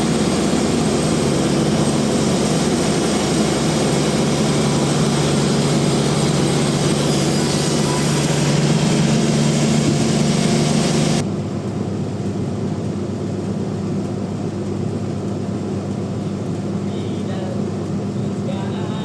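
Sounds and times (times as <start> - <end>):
band sawmill humming: 0.0 - 19.0.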